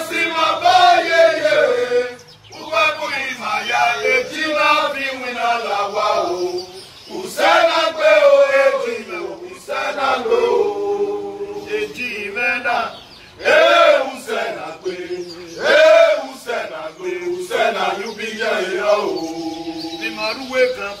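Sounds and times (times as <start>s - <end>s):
men singing a chant: 0.0s - 21.0s.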